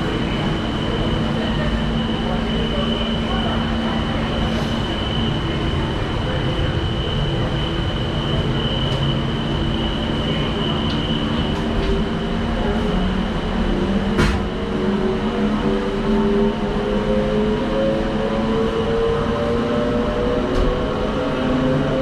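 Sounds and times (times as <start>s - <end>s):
constant high whine: 0.0s - 21.9s
gondola mechanical rumble and hum: 0.0s - 22.0s.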